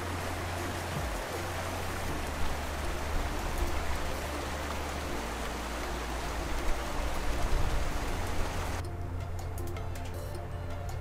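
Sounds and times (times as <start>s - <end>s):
stream running over rocks: 0.0s - 8.8s.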